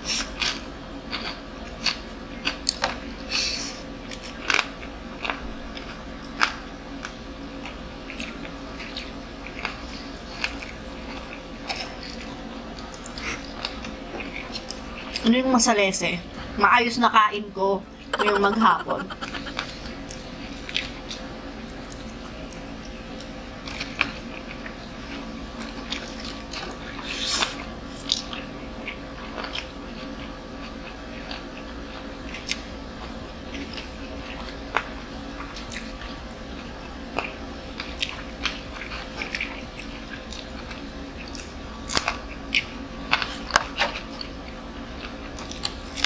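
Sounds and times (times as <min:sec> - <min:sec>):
people chewing and crunching food: 0:00.0 - 0:16.6, 0:18.0 - 0:46.0.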